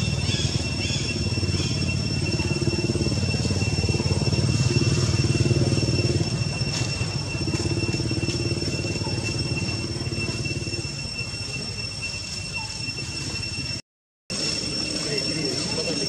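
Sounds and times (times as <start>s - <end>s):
small engine low drone: 0.0s - 13.6s
high-pitched whine: 0.0s - 16.0s.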